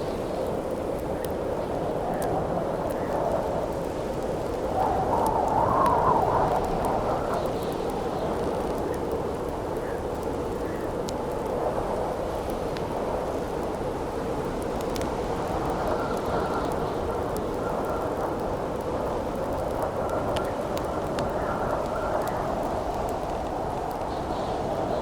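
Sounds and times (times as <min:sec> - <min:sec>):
wind blowing with faint whistle: 0:00.0 - 0:12.2, 0:14.1 - 0:25.0
campfire crackling: 0:00.0 - 0:25.0.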